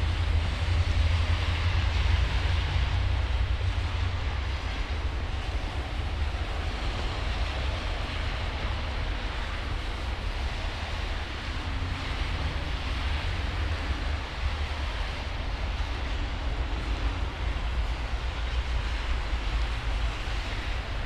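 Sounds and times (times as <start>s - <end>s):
street noise hiss: 0.0s - 21.0s
wind rumbling on microphone: 0.0s - 21.0s.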